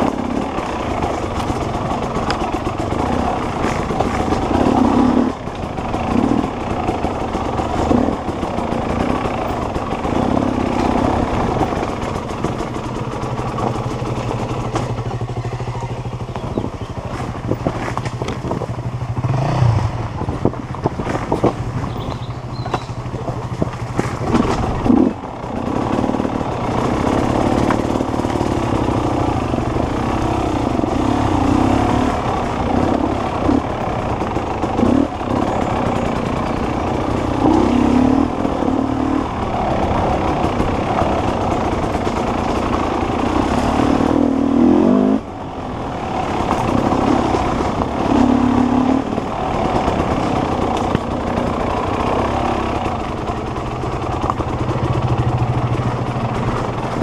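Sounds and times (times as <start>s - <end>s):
dirt bike engine revving: 0.0s - 20.4s, 21.0s - 57.0s.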